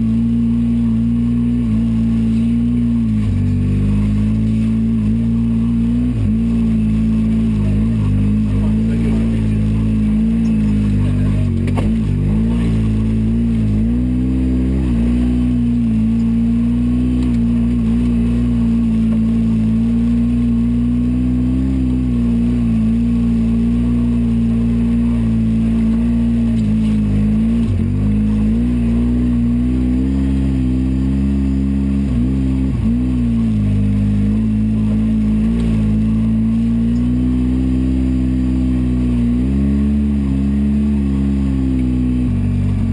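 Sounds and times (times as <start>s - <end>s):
engine running under throttle: 0.0s - 42.9s.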